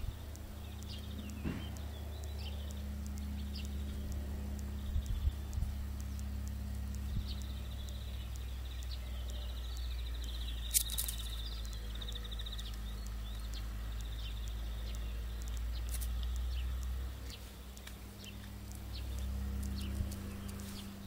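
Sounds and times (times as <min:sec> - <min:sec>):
low rumble: 0:00.0 - 0:21.0
sharp click: 0:00.0 - 0:21.0.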